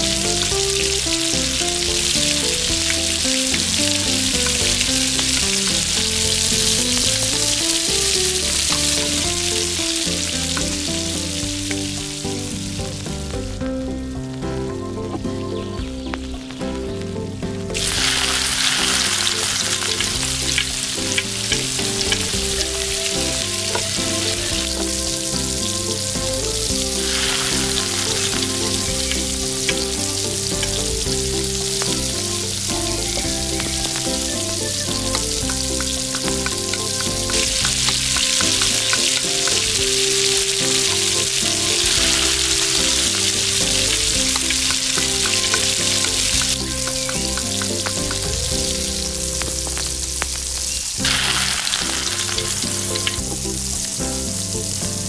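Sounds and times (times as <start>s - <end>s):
onion sizzling in oil: 0.0s - 13.4s, 15.4s - 55.0s
soft background music: 0.0s - 55.0s.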